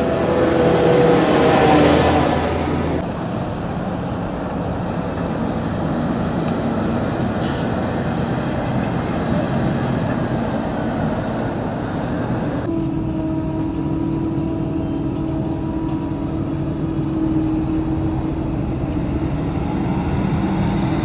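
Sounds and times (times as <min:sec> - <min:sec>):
harvester machinery droning: 0:00.0 - 0:21.0.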